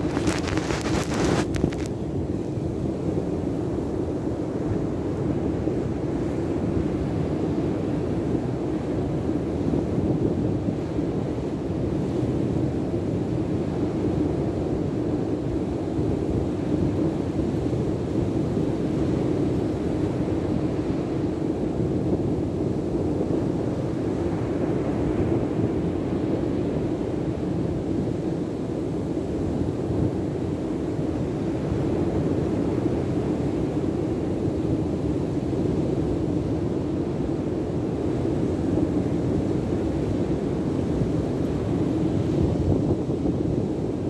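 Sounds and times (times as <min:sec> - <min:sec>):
surf breaking on a beach: 0:00.0 - 0:44.0
wind on microphone: 0:00.0 - 0:44.0.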